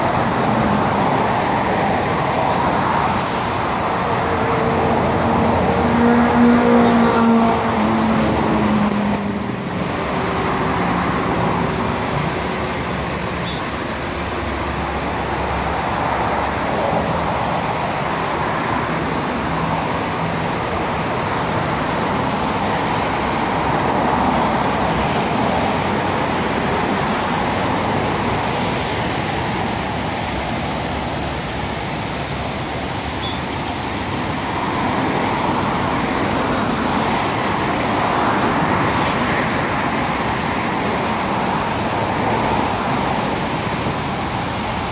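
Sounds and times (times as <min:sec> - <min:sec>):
cars passing: 0:00.0 - 0:44.9
road traffic rushing: 0:00.0 - 0:44.9.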